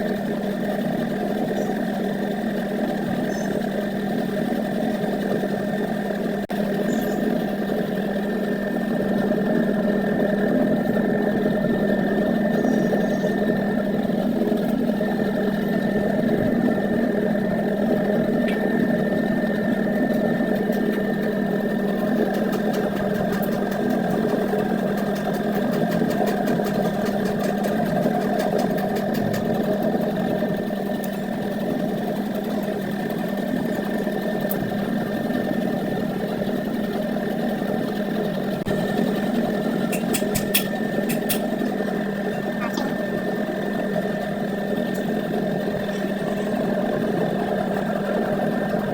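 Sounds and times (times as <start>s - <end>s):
motor running with high whine: 0.0s - 48.9s.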